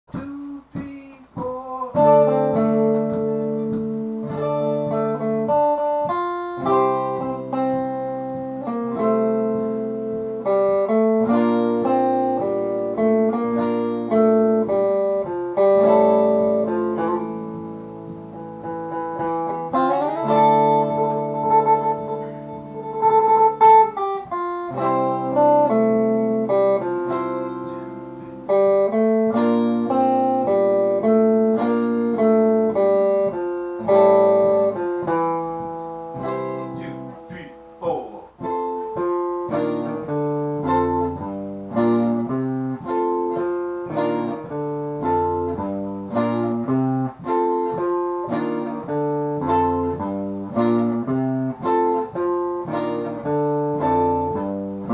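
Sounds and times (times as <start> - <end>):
guitar chords: 0.0 - 54.9.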